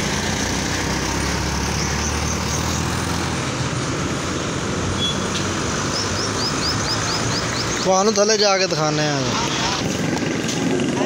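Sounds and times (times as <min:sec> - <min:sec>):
car engine hum: 0:00.0 - 0:11.0
tyre and road noise: 0:00.0 - 0:11.0.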